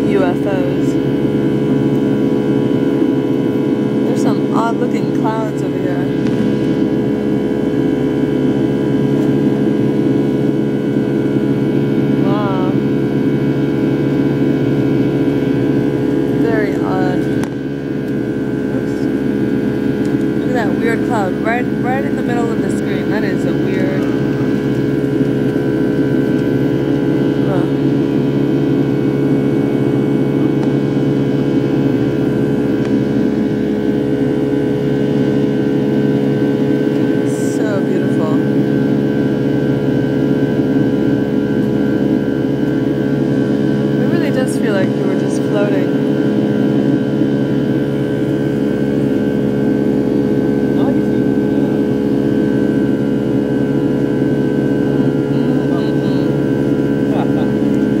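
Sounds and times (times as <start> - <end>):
jet engine drone in cabin: 0.0 - 58.0
steady hum tones: 0.0 - 58.0.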